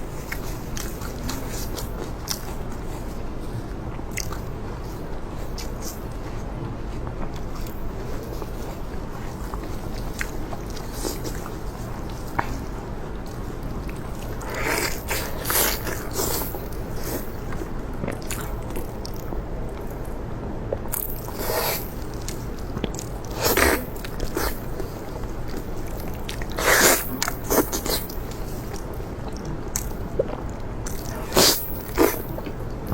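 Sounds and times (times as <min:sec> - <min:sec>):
chewing crunchy food: 0:00.0 - 0:32.9.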